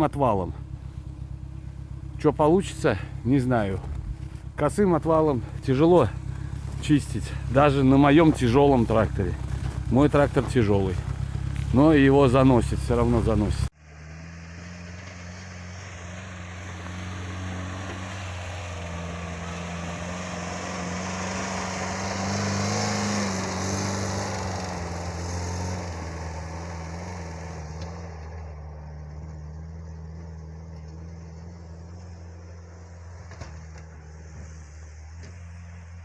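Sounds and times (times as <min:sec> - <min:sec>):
small tractor engine running: 0:00.6 - 0:14.0, 0:15.1 - 0:36.0.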